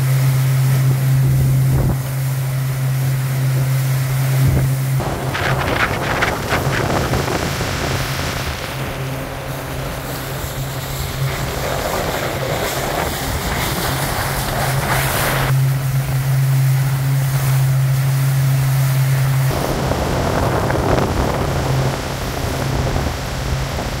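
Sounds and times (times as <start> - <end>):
motorboat engine hum: 0.0 - 24.0
water rushing against hull: 0.0 - 24.0
wind: 0.0 - 24.0.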